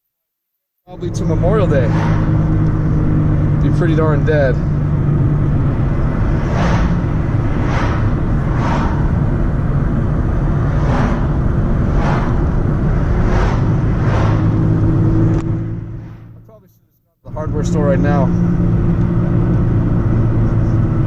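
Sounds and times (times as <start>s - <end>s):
car engine and road rumble: 0.9s - 21.0s.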